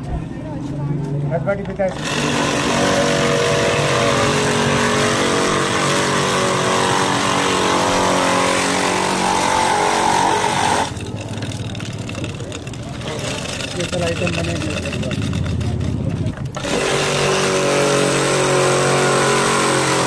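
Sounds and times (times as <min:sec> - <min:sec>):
blade shaving ice: 0:01.9 - 0:20.0
ice crusher motor whining: 0:01.9 - 0:20.0.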